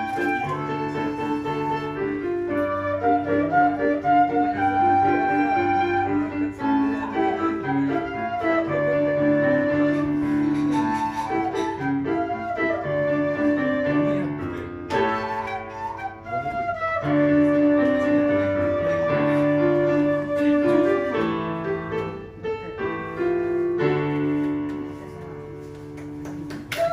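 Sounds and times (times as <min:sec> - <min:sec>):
quena melody: 0:00.0 - 0:22.6
piano chords: 0:00.0 - 0:26.9.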